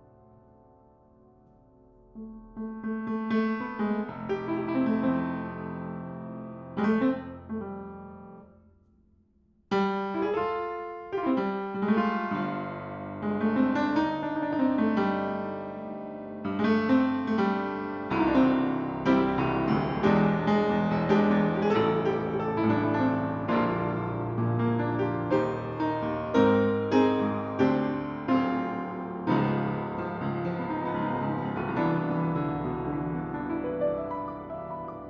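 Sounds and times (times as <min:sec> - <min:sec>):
piano playing: 0:00.0 - 0:08.4, 0:09.8 - 0:35.0.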